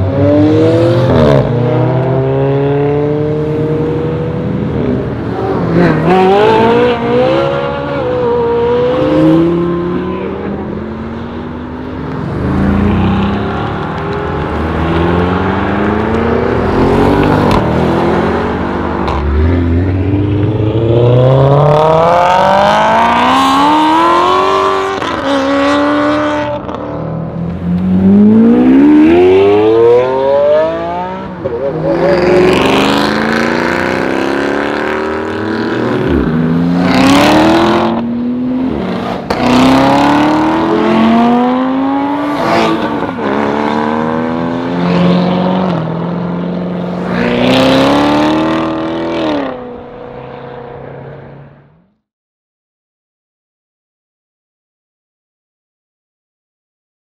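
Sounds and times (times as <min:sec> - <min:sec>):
car engines accelerating hard: 0:00.0 - 0:51.4.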